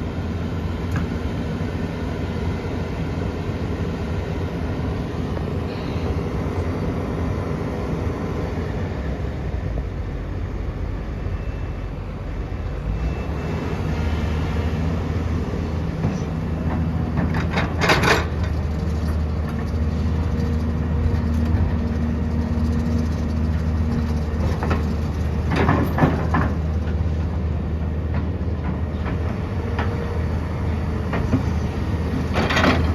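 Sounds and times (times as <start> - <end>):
diesel engine running under load: 0.0 - 32.9.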